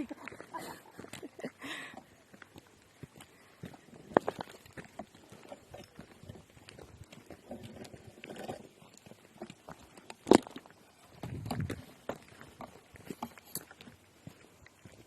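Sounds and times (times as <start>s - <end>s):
footsteps on stony path: 0.0s - 15.0s.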